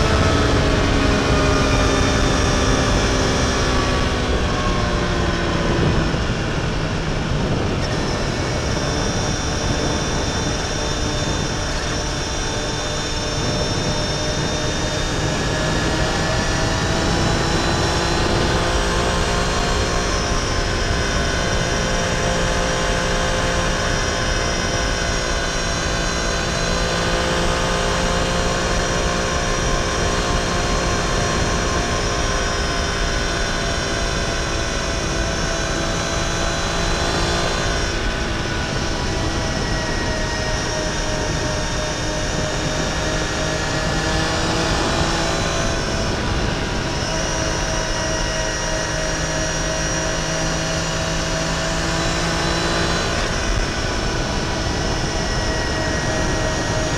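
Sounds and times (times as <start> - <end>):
motorcycle engine cruising: 0.0 - 56.9
wind and road rush: 0.0 - 56.9.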